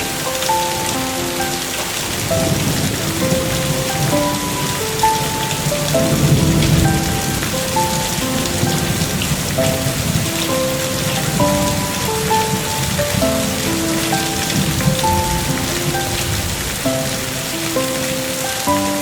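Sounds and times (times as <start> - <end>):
slow melody of held notes: 0.0 - 19.0
steady rain falling: 0.0 - 19.0.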